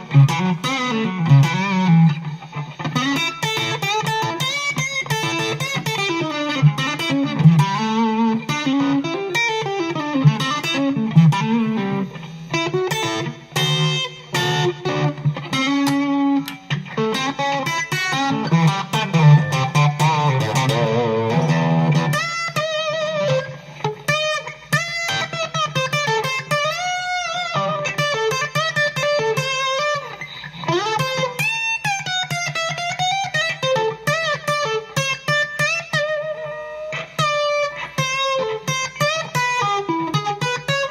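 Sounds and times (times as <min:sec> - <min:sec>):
electric guitar lead playing: 0:00.0 - 0:40.9.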